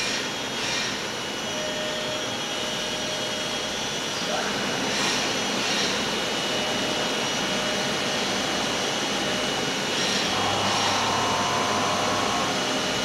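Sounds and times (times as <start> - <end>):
constant high whine: 0.0 - 13.0.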